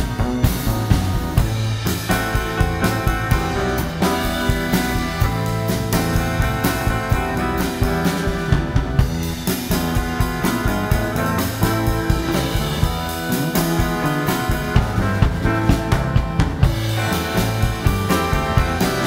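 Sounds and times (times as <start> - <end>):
bass guitar: 0.0 - 19.0
drum kit steady beat: 0.0 - 19.0
electric guitar: 0.0 - 19.0
keyboard: 0.0 - 19.0.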